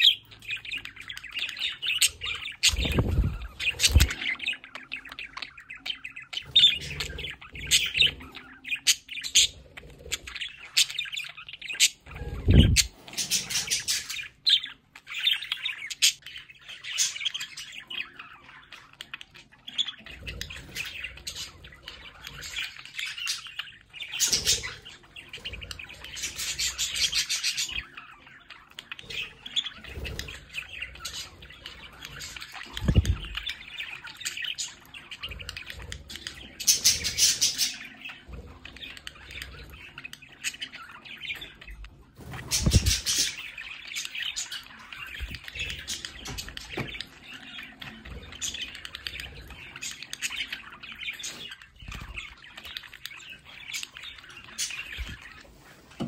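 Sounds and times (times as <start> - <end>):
budgerigars chirping: 0.0 - 56.0.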